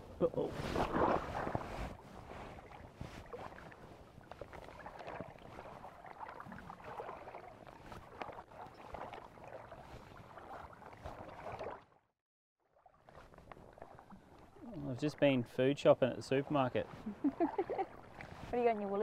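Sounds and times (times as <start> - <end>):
water sloshing around legs: 0.6 - 12.0, 12.8 - 15.0, 16.1 - 19.0.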